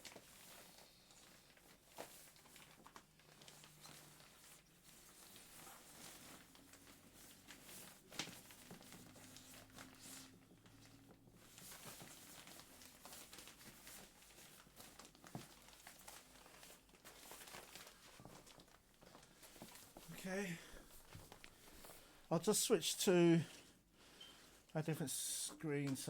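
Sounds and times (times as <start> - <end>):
fabric crinkling and rustling: 0.0 - 24.7.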